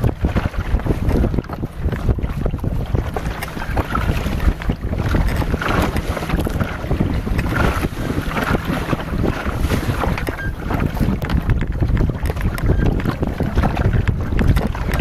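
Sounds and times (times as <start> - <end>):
water splashing against boat hull: 0.0 - 15.0
wind buffeting microphone: 0.0 - 15.0.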